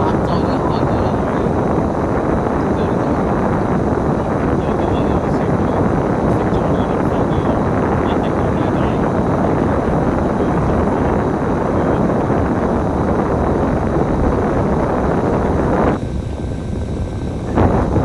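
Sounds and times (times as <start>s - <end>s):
wind noise: 0.0s - 18.0s.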